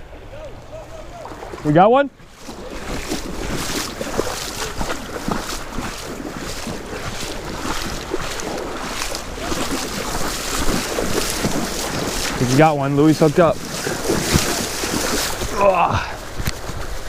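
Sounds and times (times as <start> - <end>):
river water rushing: 0.0 - 17.0
water splashes: 0.0 - 17.0
wind buffeting microphone: 0.0 - 17.0.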